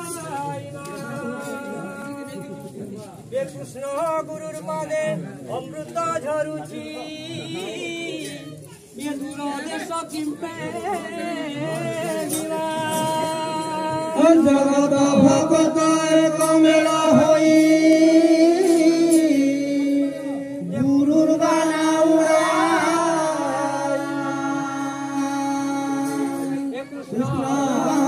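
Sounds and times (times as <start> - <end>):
devotional singing: 0.0 - 2.9, 6.0 - 28.0.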